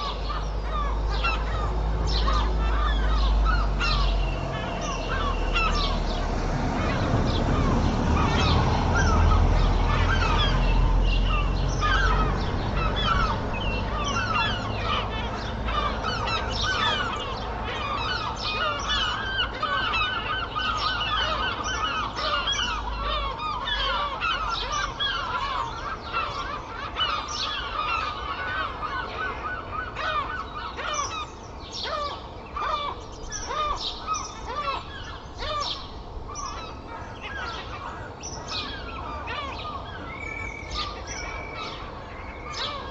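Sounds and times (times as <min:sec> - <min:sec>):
gulls calling: 0:00.0 - 0:42.9
low traffic rumble: 0:00.0 - 0:42.9
songbirds chirping and singing: 0:00.0 - 0:42.9.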